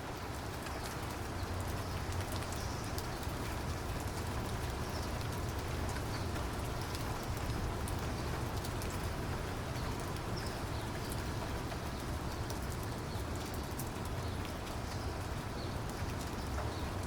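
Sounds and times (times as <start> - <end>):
steady rain falling: 0.0 - 17.0
raindrops ticking: 0.1 - 17.0.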